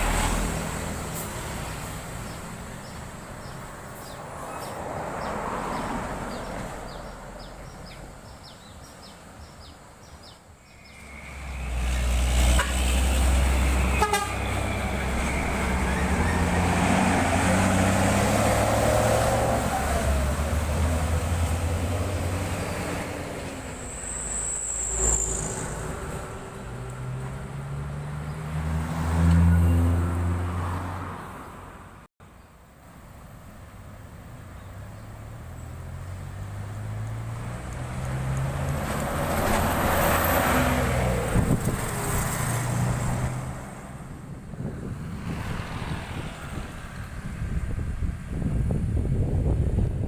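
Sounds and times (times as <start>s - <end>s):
diesel buses passing: 0.0s - 50.0s
tyre and road noise: 0.0s - 50.0s.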